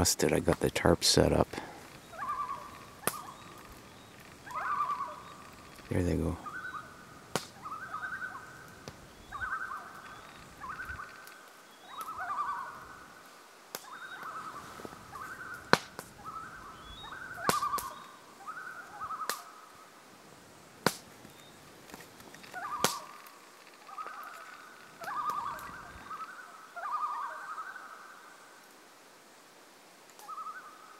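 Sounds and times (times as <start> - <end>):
loons tremolo calling: 0.9 - 13.2, 13.8 - 19.7, 22.3 - 28.4, 30.2 - 30.9.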